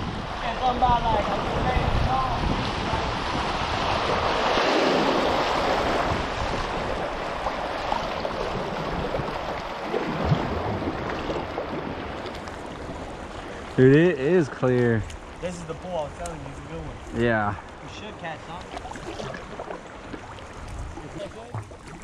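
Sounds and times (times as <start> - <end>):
wind buffeting microphone: 0.0 - 18.0, 18.8 - 22.0
river water rushing: 0.0 - 22.0.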